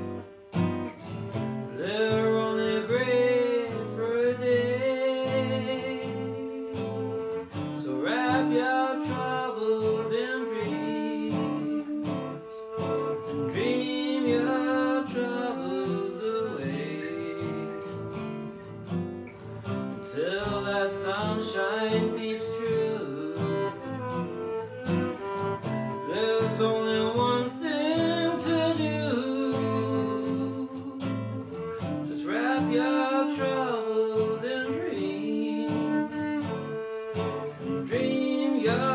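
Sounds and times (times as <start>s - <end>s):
bowed string melody: 0.0s - 38.9s
plucked guitar accompaniment: 0.0s - 38.9s.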